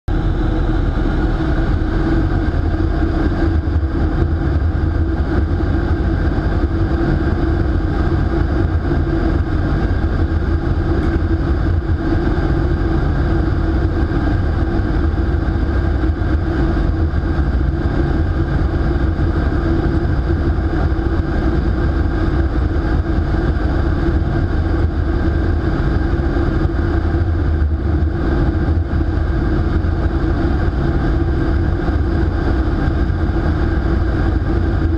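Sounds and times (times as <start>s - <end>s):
low fan hum: 0.1s - 34.9s
rush of air in wind tunnel: 0.1s - 34.9s
wind buffeting microphone: 0.1s - 34.9s.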